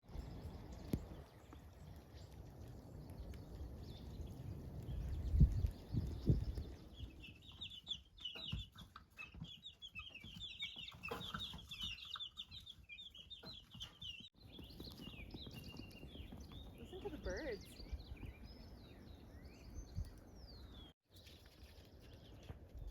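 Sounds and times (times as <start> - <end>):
baby chicks peeping: 0.2 - 20.9.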